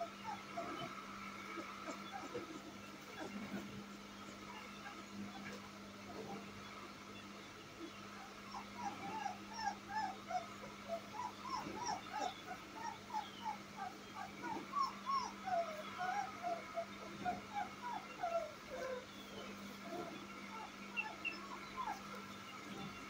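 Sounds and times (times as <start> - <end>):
puppy whimpering: 0.0 - 6.4, 8.2 - 23.0.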